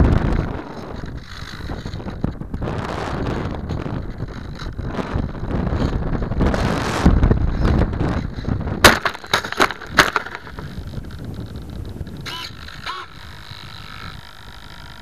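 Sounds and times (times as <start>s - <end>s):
faint steady hum: 0.0s - 15.0s
plane knocking and scraping on ground: 0.0s - 15.0s.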